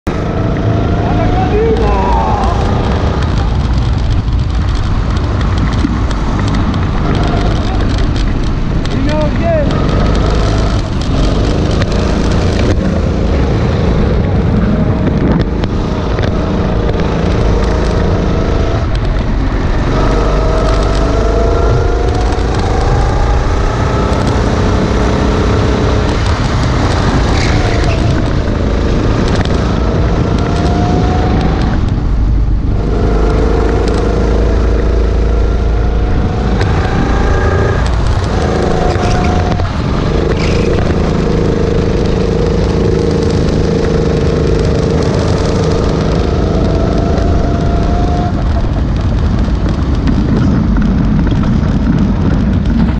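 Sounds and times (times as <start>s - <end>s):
low wind rumble: 0.0s - 52.9s
kart engine running hard: 0.2s - 52.9s.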